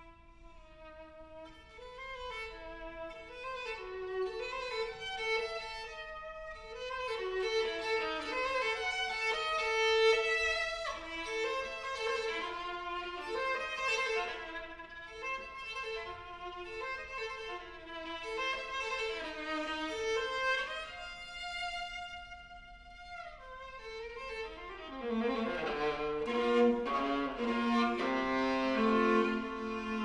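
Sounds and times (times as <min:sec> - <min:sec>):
viola playing bowed notes: 0:00.0 - 0:30.0.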